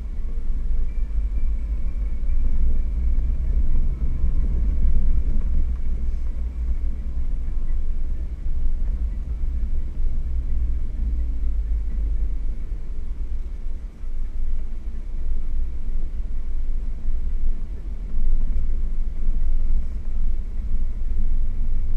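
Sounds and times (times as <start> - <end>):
low engine rumble: 0.0 - 21.9
tire and road noise: 0.0 - 21.9.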